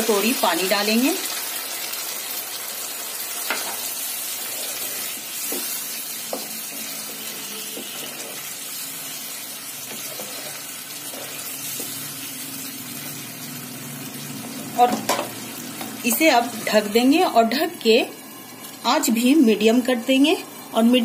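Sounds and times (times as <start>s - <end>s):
gravy sizzling in a pan: 0.0s - 21.0s.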